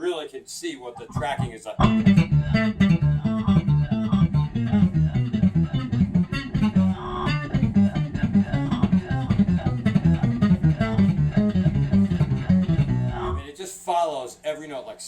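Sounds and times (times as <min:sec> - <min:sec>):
distorted synth electric bass: 0:01.1 - 0:13.4.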